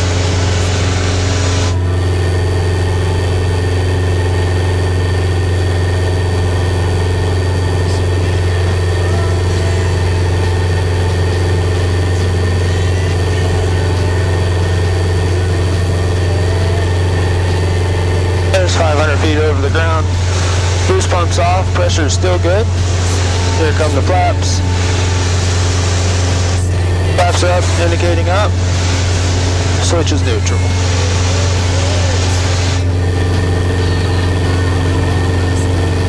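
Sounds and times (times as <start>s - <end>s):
airplane engine and propeller drone: 0.0s - 36.0s.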